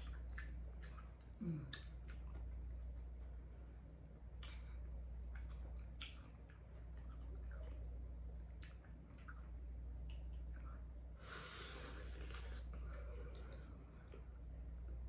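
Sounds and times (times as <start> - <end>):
mouth chewing with smacks: 0.0 - 11.1, 12.0 - 14.3
low steady hum: 0.0 - 15.0.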